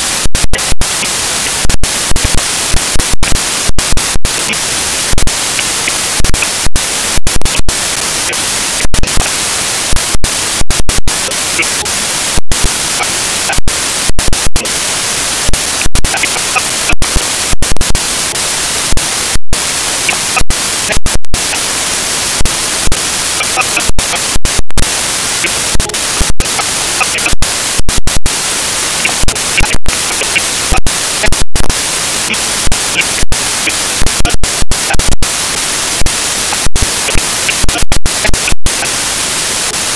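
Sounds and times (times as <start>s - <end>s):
white-noise hiss: 0.0s - 39.9s.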